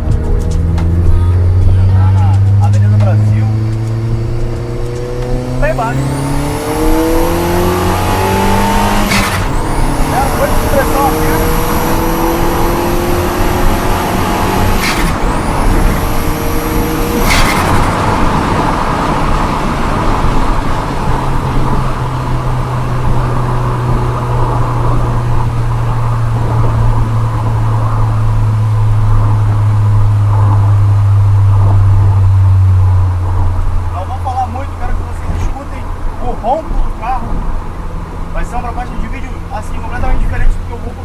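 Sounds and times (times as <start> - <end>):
car engine droning while driving: 0.0 - 41.0.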